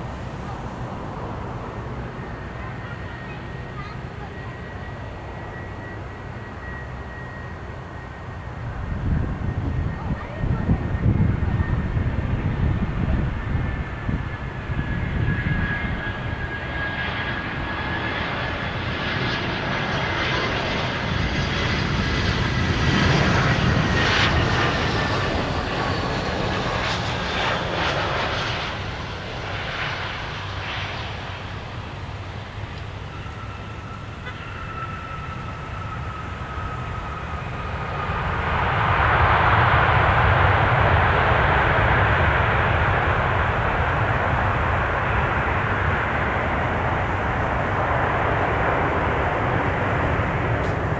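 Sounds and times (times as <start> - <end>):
jet airliner landing: 0.0 - 50.9.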